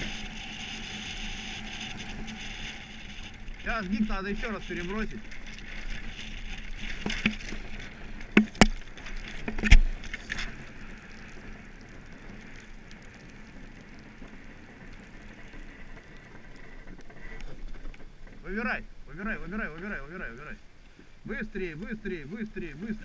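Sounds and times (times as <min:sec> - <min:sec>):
rushing hiss of runners and wind: 0:00.0 - 0:21.6.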